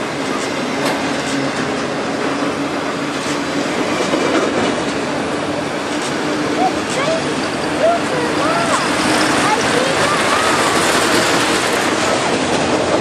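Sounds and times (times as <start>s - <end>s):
freight cars rolling on rails: 0.0s - 13.0s.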